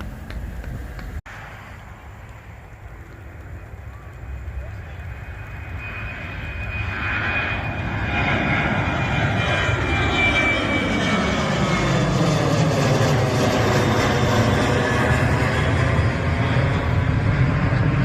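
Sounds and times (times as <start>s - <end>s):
high jet whine: 0.0s - 18.0s
jet engines rumbling: 0.0s - 18.0s.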